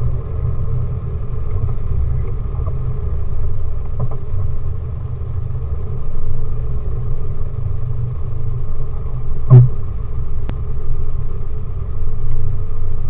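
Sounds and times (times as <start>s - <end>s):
car engine rumbling at low revs: 0.0s - 13.0s.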